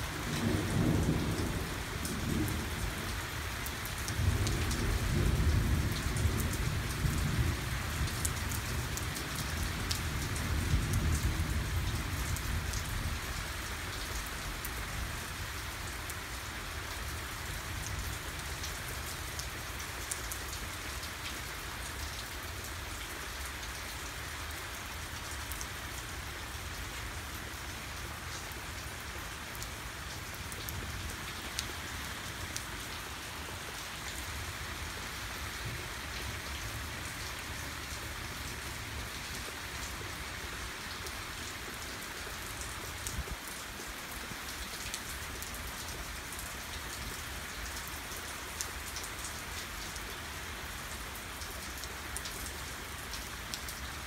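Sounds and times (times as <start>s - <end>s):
heavy rain on pavement: 0.0s - 54.0s.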